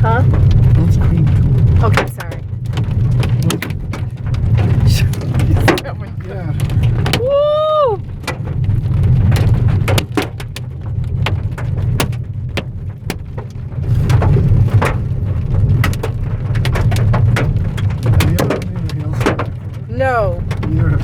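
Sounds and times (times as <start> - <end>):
car driving rumble: 0.0 - 21.0
hailstones knocking on car: 0.0 - 21.0.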